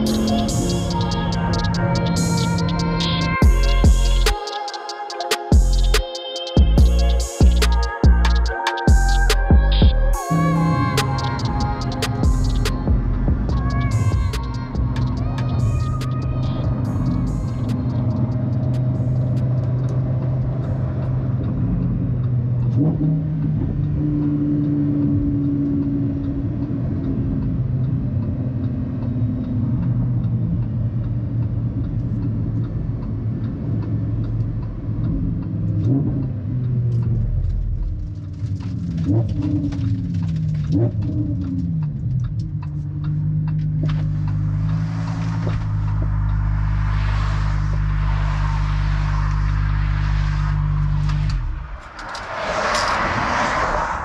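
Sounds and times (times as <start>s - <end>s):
car engine revving while driving: 0.0s - 4.4s, 7.5s - 51.6s.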